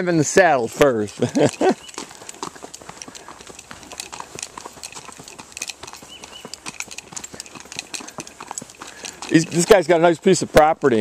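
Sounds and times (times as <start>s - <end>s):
horse hooves on gravel: 0.0s - 11.0s.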